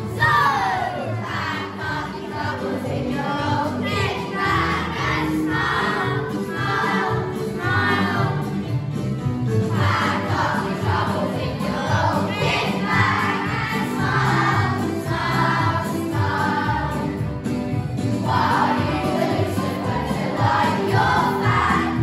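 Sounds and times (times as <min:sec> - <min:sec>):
instrumental accompaniment: 0:00.0 - 0:22.0
choir singing slow song: 0:00.4 - 0:08.4, 0:09.7 - 0:17.3, 0:18.2 - 0:22.0.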